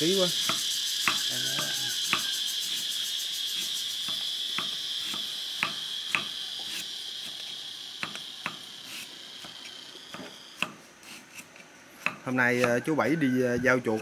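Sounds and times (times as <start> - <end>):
insect chorus chirring: 0.0 - 14.0.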